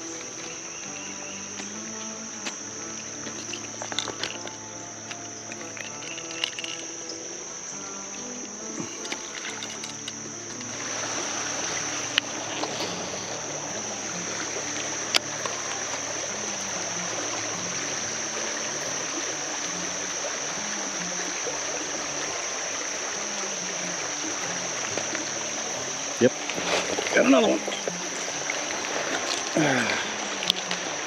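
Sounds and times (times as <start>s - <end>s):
creek water running: 0.0s - 31.0s
steady high buzz: 0.0s - 31.0s.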